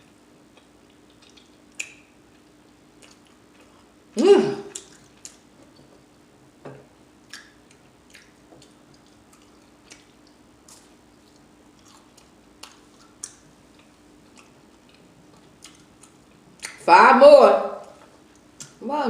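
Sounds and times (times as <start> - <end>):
chewing and lip smacking: 0.5 - 4.0, 4.7 - 6.0, 7.2 - 16.8, 17.8 - 18.8.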